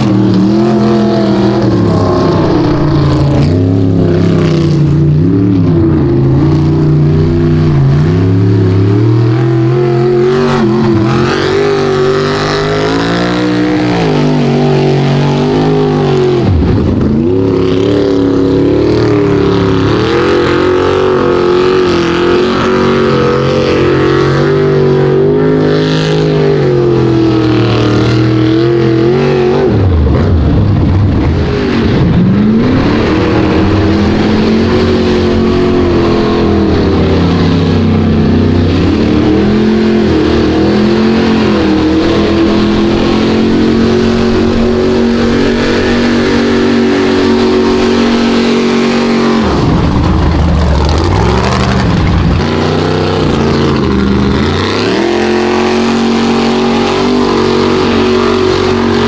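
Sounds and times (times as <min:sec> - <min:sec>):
tyres churning mud: 0:00.0 - 0:30.6, 0:31.2 - 0:59.0
truck engine revving: 0:00.0 - 0:59.0.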